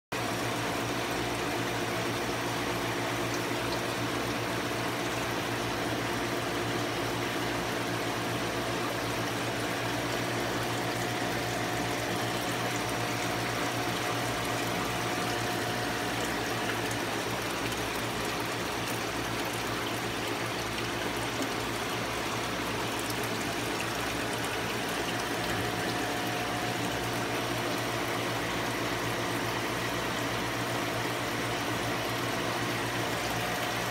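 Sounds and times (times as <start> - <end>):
constant low hum: 0.2 - 33.9.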